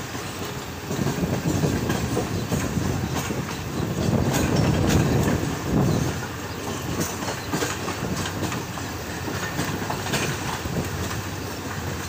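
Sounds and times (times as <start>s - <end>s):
rumble of wheels on rails: 0.0s - 12.0s
wheels clicking over rail joints: 0.0s - 12.0s.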